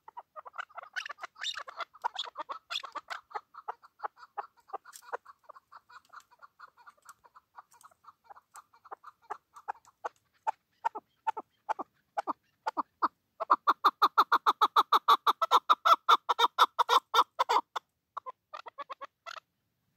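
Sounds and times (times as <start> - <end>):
partridge calling: 0.0 - 19.5.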